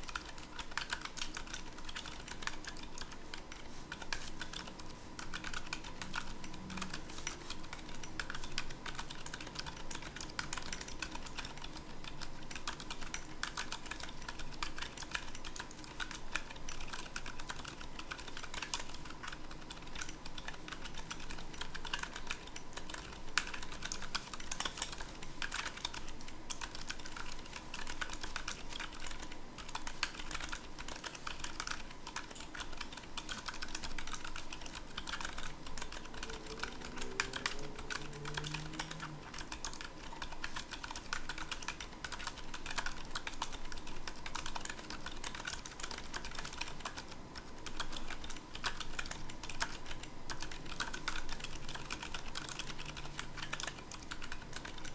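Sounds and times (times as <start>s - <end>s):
typing on mechanical keyboard: 0.0s - 54.9s.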